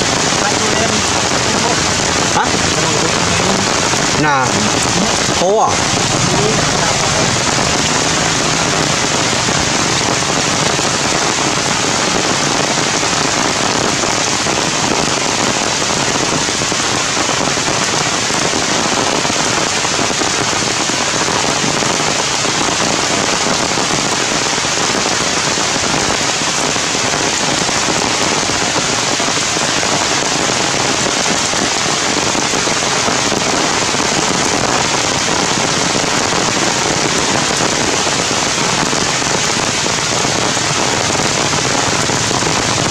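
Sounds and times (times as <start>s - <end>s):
heavy rain on leaves: 0.0s - 42.9s.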